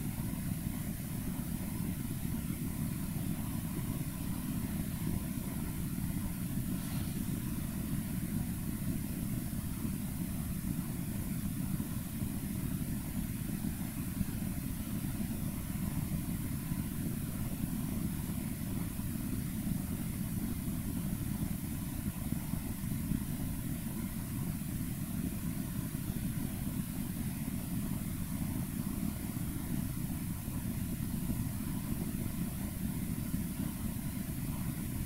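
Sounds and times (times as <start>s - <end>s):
faint hiss: 0.0s - 35.0s
low background rumble: 0.0s - 35.0s.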